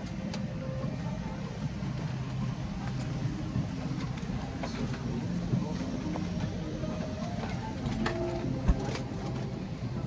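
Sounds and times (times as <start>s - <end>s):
airliner cabin hum: 0.0s - 10.0s.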